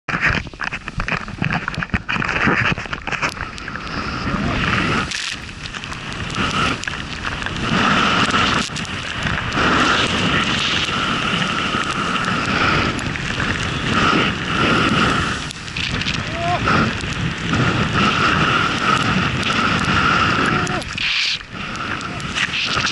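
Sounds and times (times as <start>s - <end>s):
wind rushing over microphone: 0.1s - 22.9s.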